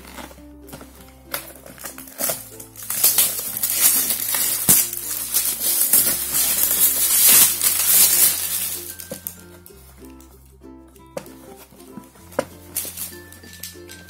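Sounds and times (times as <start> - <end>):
cardboard packaging rustling: 0.0 - 10.3, 11.2 - 14.0.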